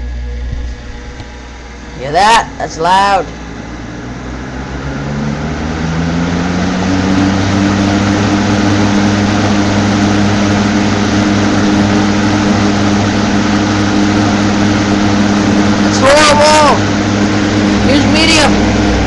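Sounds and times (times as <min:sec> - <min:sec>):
box fan humming: 0:00.0 - 0:19.0.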